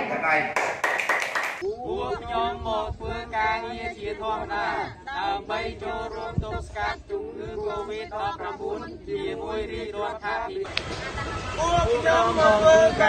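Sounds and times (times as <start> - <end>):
people reciting in unison: 1.6 - 13.0.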